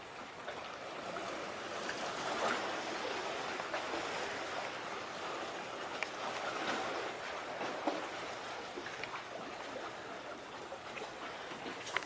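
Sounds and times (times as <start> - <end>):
sea water lapping on shore: 0.0 - 12.0.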